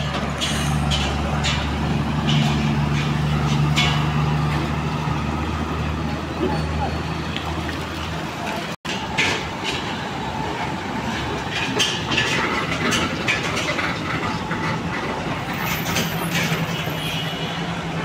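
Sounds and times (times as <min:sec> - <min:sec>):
heavy trucks passing: 0:00.0 - 0:18.0
trailers clanking and rattling: 0:00.0 - 0:18.0.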